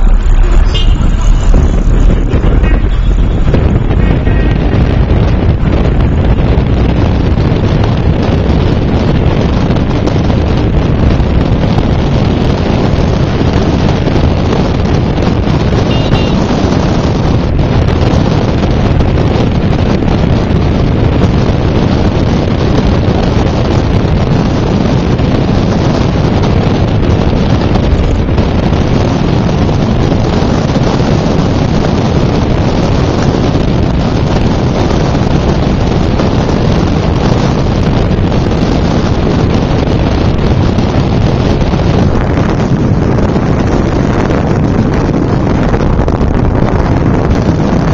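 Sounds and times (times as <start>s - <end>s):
car road rumble: 0.0s - 47.9s
wind buffeting microphone: 0.0s - 47.9s.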